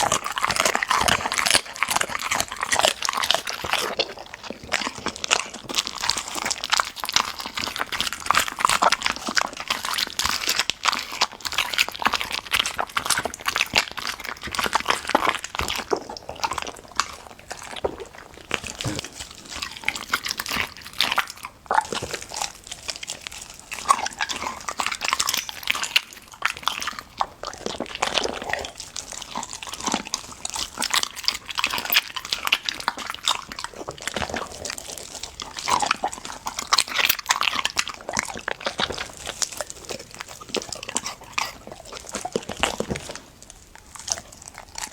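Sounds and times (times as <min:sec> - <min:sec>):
dog chewing and crunching food: 0:00.0 - 0:44.9.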